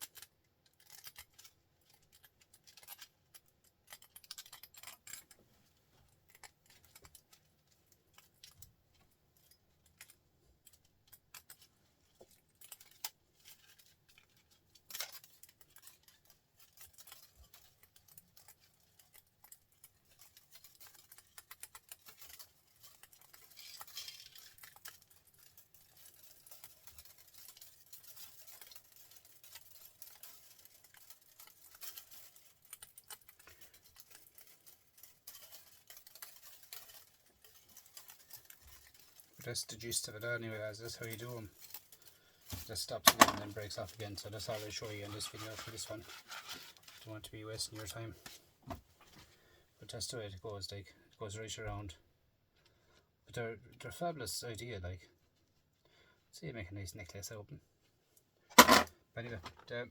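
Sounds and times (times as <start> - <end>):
small metallic clicks and clinks: 0.0 - 49.4, 58.5 - 59.8
scraping rustle: 0.8 - 49.4.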